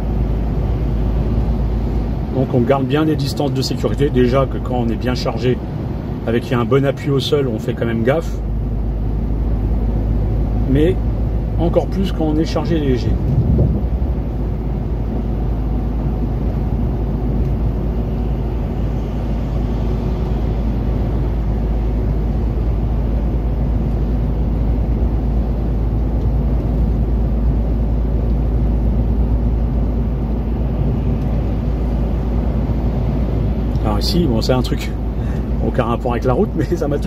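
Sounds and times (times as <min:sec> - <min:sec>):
truck engine hum: 0:00.0 - 0:37.0.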